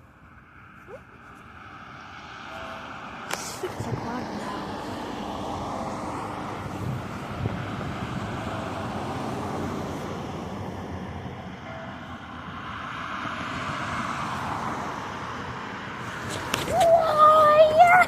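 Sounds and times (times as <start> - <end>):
rumble of vehicle noise: 0.0 - 18.0.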